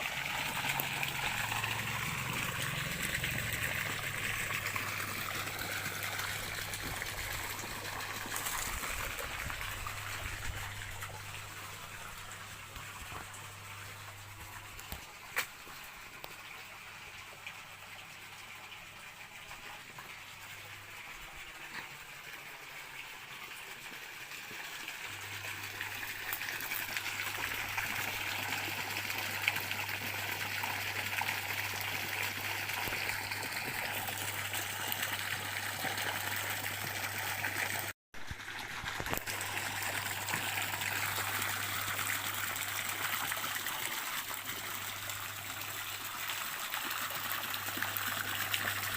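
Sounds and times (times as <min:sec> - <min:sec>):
stream water rushing and trickling: 0:00.0 - 0:48.9.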